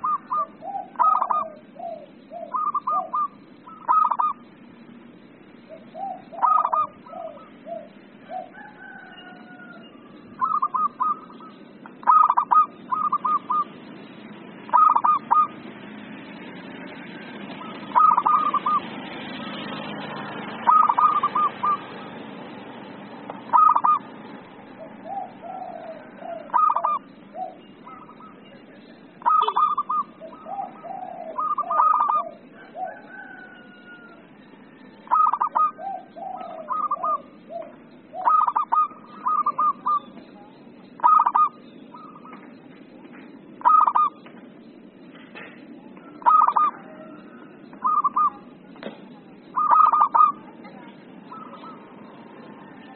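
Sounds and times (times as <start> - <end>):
dove cooing: 0.0 - 42.6, 43.5 - 44.3, 45.8 - 52.9.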